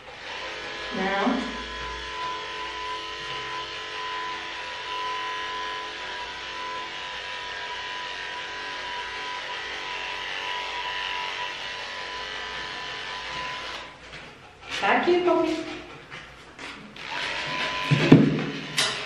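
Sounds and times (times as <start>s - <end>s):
electric clippers whining: 0.0s - 14.0s, 17.0s - 19.0s.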